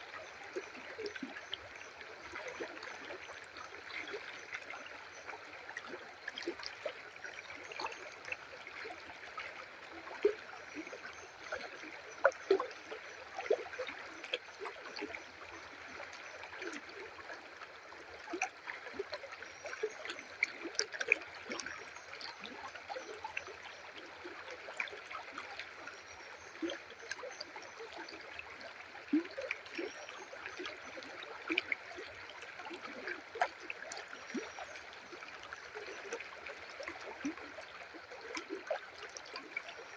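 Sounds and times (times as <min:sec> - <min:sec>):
river water trickling: 0:00.0 - 0:39.9
water gurgles and splashes: 0:00.0 - 0:39.9.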